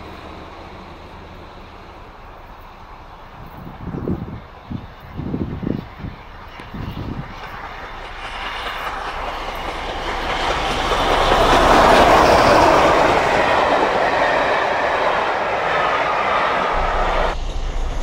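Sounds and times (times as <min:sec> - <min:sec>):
coaches running on rails: 0:00.0 - 0:18.0
steam train passing: 0:00.0 - 0:18.0.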